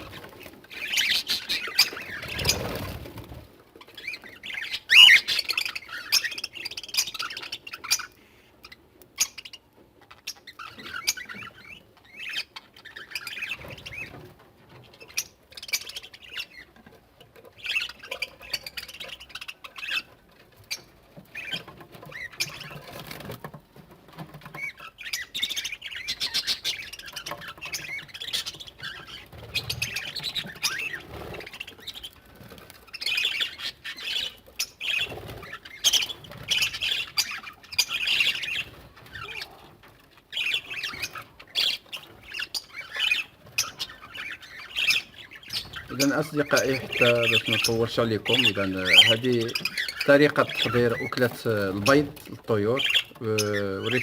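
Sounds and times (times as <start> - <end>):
parrots chattering and squawking: 0.0 - 23.5, 24.3 - 54.0.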